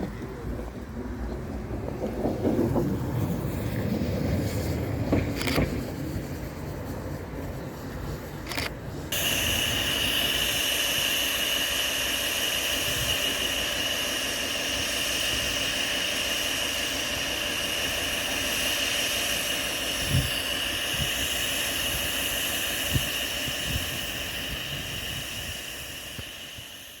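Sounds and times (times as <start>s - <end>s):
steam hissing: 3.2s - 27.0s.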